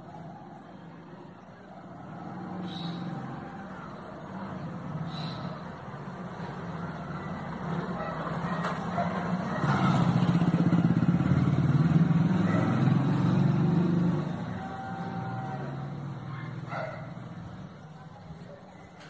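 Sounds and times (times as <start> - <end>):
vehicle engine running: 1.9 - 18.5.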